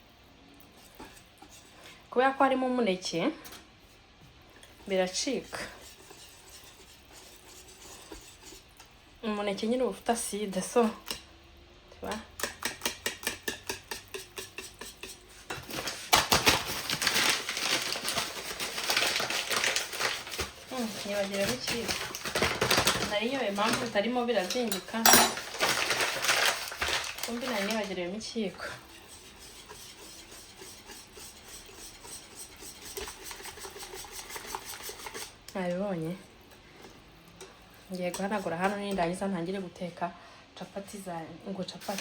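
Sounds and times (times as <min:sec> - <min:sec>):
utensil stirring batter in a bowl: 0:00.0 - 0:39.7, 0:41.7 - 0:42.0.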